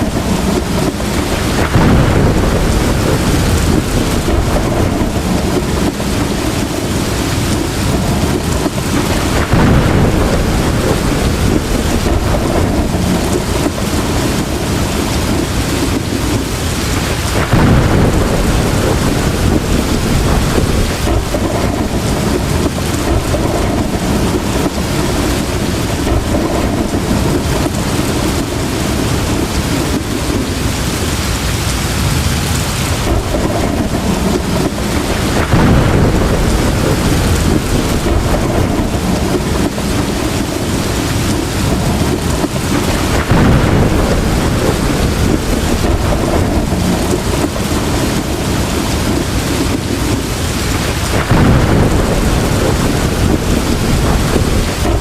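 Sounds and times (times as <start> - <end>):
heavy rain pouring: 0.0 - 55.0
thunder rolling: 0.0 - 55.0.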